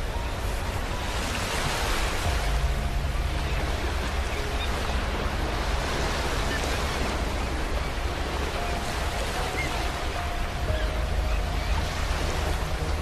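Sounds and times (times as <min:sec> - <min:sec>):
waves washing on a beach: 0:00.0 - 0:13.0.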